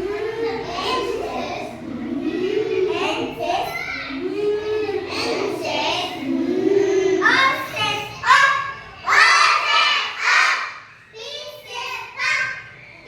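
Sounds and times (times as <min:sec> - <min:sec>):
child chanting phonic sounds: 0:00.0 - 0:13.0.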